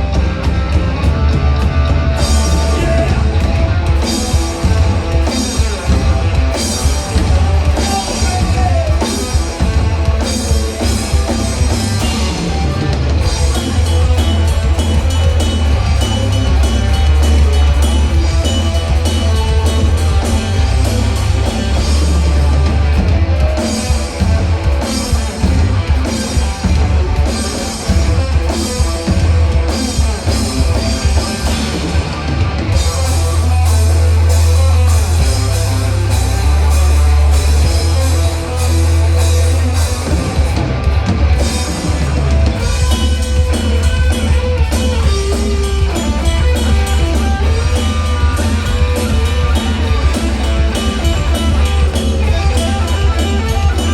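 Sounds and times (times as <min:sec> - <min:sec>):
drum kit: 0:00.0 - 0:53.9
electric guitar: 0:00.0 - 0:53.9
heavy bass: 0:00.0 - 0:53.9
live rock band playing: 0:00.0 - 0:53.9.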